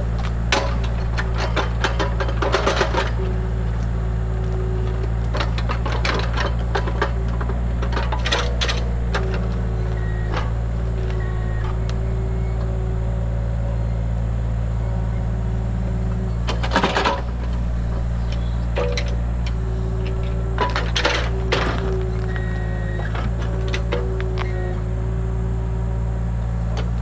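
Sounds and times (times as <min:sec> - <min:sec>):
excavator engine running: 0:00.0 - 0:27.0
hydraulic whine: 0:00.0 - 0:27.0.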